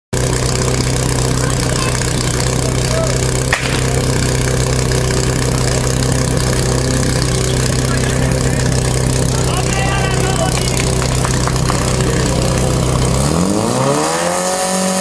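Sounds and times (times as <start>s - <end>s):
pump engine idling: 0.2s - 13.5s.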